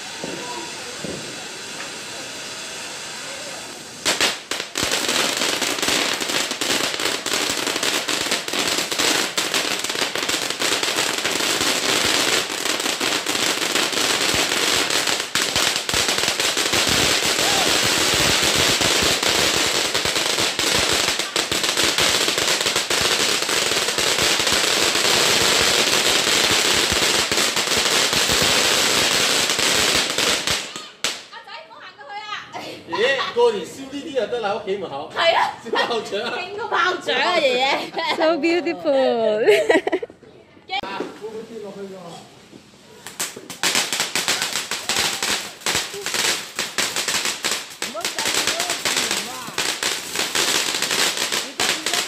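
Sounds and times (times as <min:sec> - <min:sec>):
firework hissing: 0:00.0 - 0:31.4, 0:40.9 - 0:52.0
firework crackling: 0:00.0 - 0:32.1, 0:40.8 - 0:52.0.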